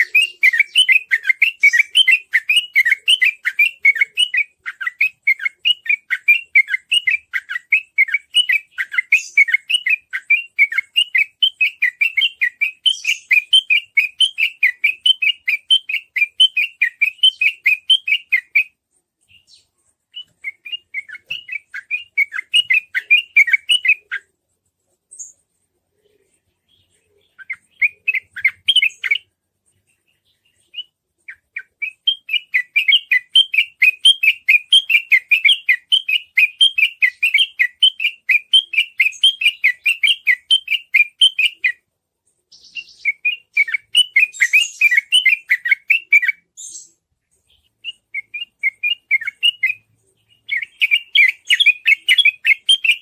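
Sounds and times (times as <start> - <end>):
bird chirping rapidly: 0.0 - 24.3, 26.7 - 41.9, 42.5 - 53.0.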